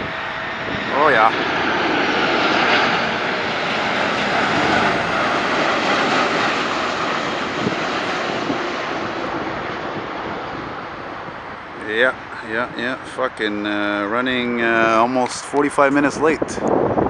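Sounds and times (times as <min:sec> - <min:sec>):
jetliner roar overhead: 0:00.0 - 0:17.0.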